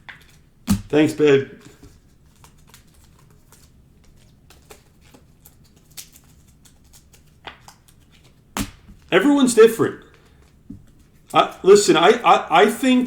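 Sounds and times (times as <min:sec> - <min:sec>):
trading cards clicking and rustling: 0:00.0 - 0:13.0.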